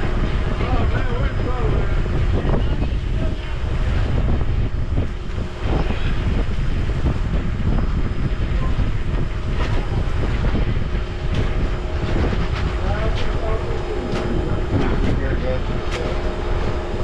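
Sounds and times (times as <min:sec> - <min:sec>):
large engine rumbling: 0:00.0 - 0:17.0.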